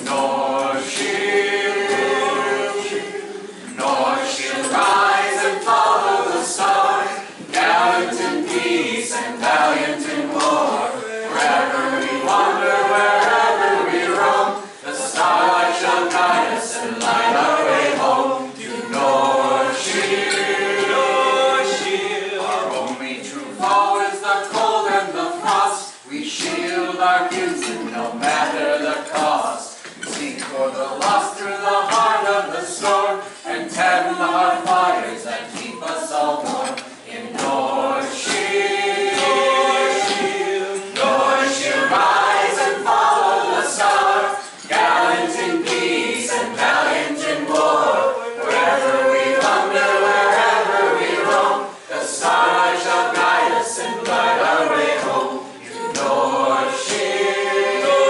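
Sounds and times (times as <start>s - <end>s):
group of voices singing: 0.0s - 58.0s.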